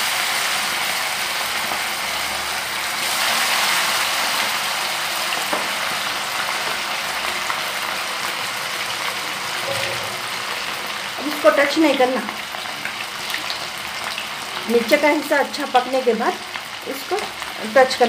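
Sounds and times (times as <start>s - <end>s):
fish deep-frying in oil: 0.0s - 18.0s.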